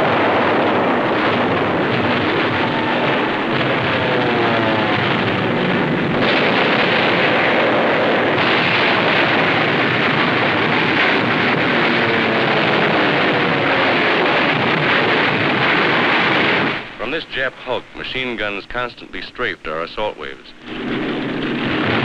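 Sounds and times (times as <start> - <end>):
aircraft engines roaring: 0.0 - 22.0.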